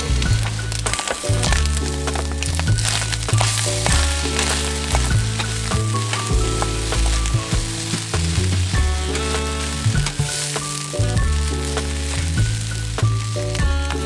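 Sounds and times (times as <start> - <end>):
background music: 0.0 - 14.0
food sizzling in a wok: 0.0 - 14.0.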